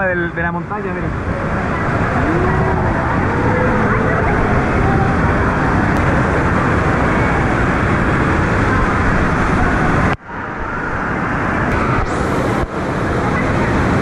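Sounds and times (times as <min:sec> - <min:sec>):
faint voices: 0:00.0 - 0:14.0
waterfall rushing into pool: 0:00.0 - 0:14.0.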